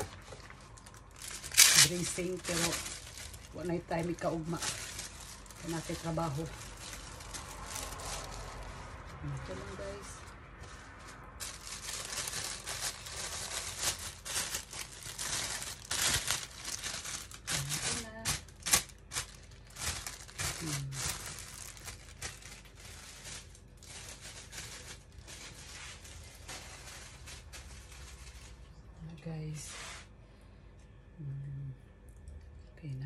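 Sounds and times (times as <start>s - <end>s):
plastic bag crinkling: 0.0s - 28.8s.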